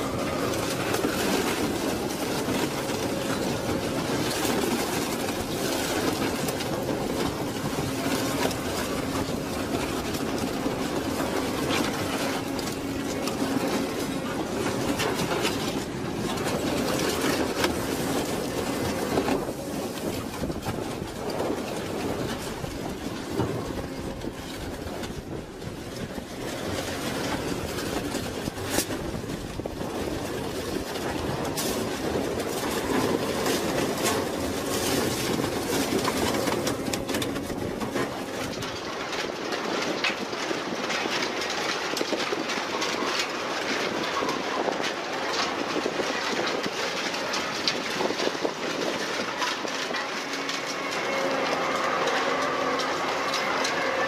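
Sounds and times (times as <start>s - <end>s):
shredder grinding metal: 0.0s - 54.0s.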